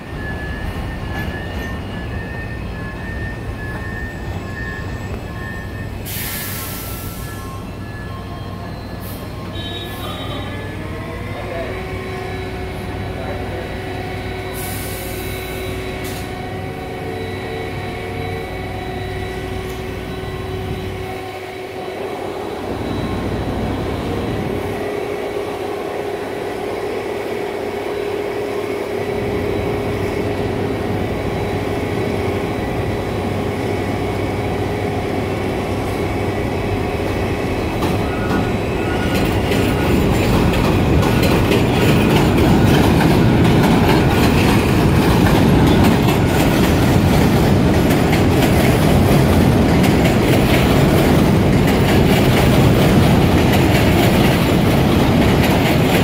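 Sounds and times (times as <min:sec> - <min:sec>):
subway train whining: 0:00.0 - 0:56.0
wheels rumbling on rail: 0:00.0 - 0:56.0.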